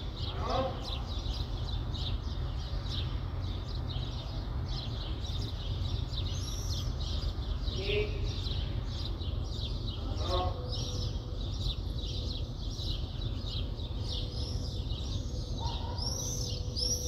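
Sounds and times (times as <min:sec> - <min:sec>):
low city rumble: 0:00.0 - 0:17.0
small birds chirping: 0:00.0 - 0:17.0.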